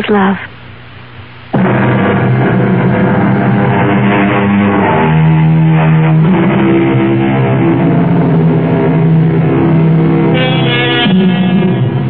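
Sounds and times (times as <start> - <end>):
sustained chords over bass note: 1.6 - 12.0.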